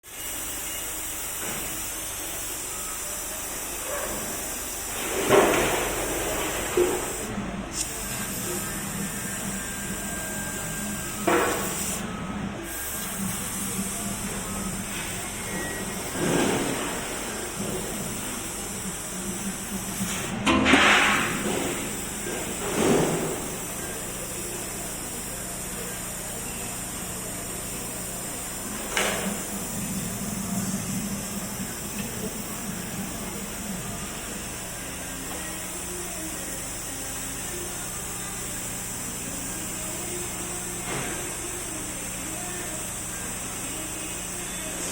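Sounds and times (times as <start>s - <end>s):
laser cutter hissing: 0.0s - 44.9s.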